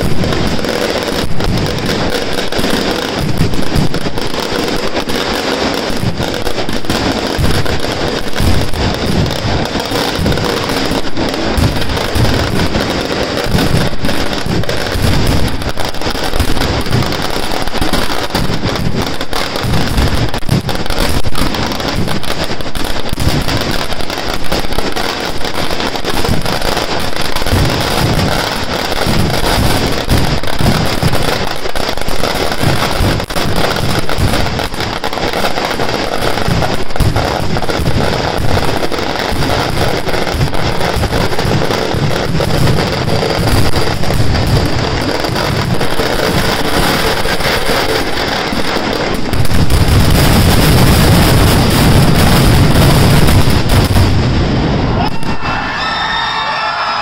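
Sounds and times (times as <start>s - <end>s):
firecracker bangs and crackling: 0.0s - 57.0s
rockets shooting up: 0.0s - 57.0s.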